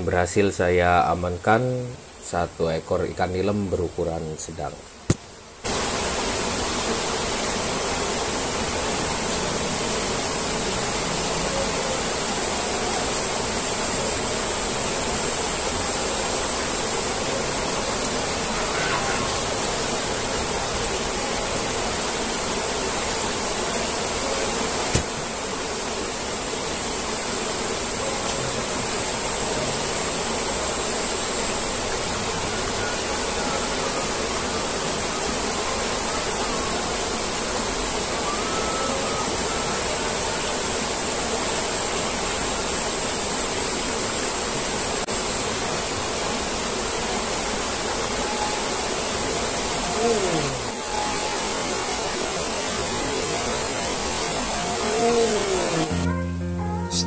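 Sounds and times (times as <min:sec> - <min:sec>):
stream water rushing: 0:05.2 - 0:56.1.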